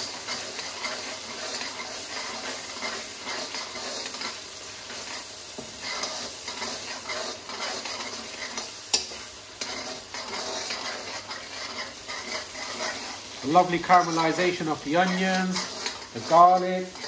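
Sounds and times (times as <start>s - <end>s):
food sizzling in hot oil: 0.0s - 17.0s
spoon scraping a pot: 0.2s - 17.0s.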